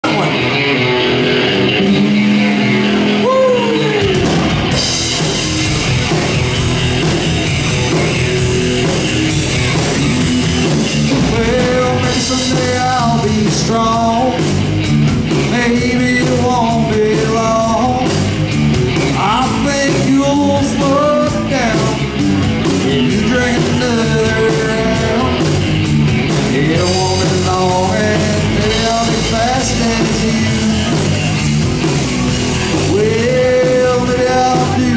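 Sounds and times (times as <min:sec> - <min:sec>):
bass guitar: 0:00.0 - 0:34.9
drums: 0:00.0 - 0:34.9
electric guitar: 0:00.0 - 0:34.9.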